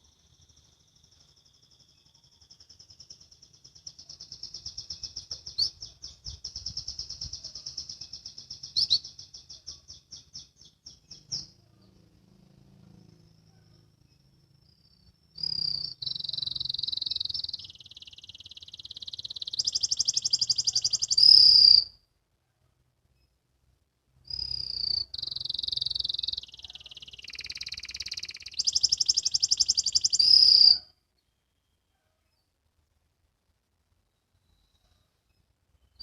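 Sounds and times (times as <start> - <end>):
canary trilling song: 0.0 - 22.0, 24.2 - 31.9.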